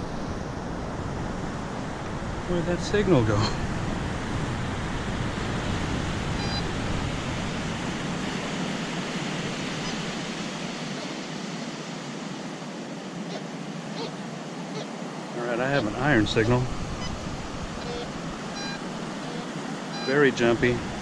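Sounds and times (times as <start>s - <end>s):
ocean surf rushing: 0.0s - 21.0s.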